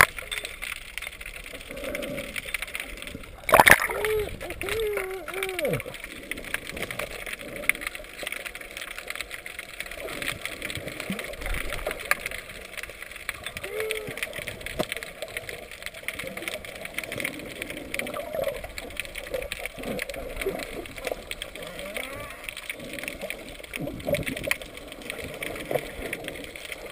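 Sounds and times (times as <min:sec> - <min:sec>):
underwater crackling hiss: 0:00.0 - 0:26.9.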